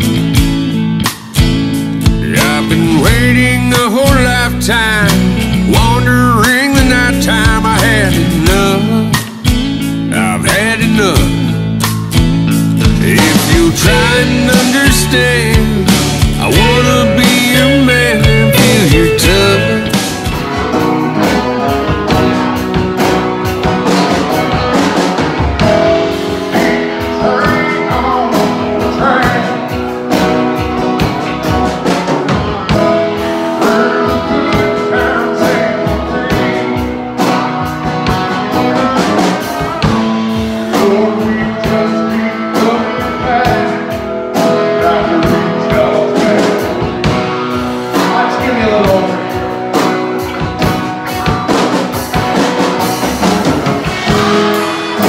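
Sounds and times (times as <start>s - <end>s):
drum kit: 0.0s - 55.0s
electric guitar lead: 0.0s - 55.0s
strummed acoustic guitar: 0.0s - 55.0s.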